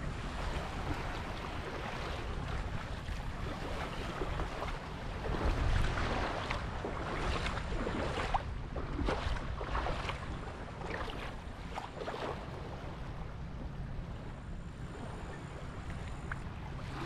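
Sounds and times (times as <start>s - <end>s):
water lapping and splashing: 0.0s - 17.0s
wind rumble on microphone: 0.0s - 17.0s.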